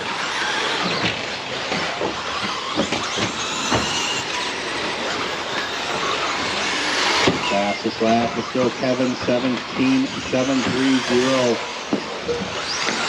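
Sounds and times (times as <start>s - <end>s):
rc truck motors whining: 0.0s - 13.0s
tyres rushing on dirt track: 0.0s - 13.0s.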